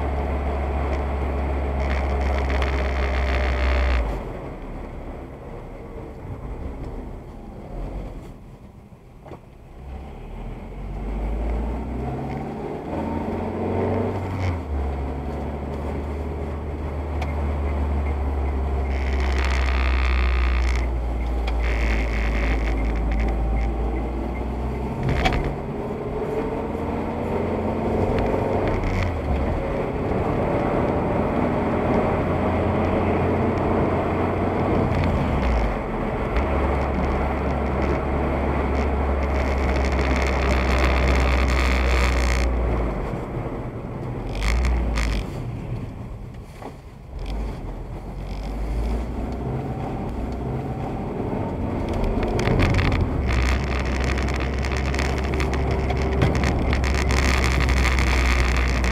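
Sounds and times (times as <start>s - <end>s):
car engine and road drone: 0.0s - 58.9s.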